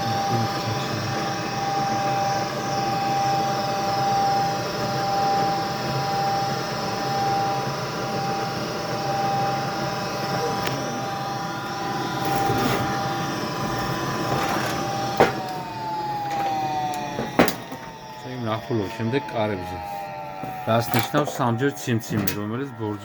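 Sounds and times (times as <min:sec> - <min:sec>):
furnace fan motor humming: 0:00.0 - 0:23.0.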